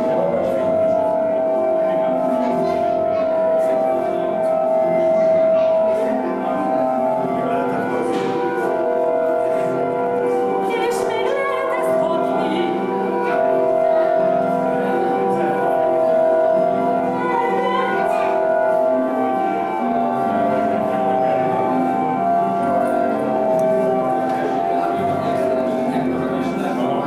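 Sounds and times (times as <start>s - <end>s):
long held orchestral notes: 0.0s - 27.0s.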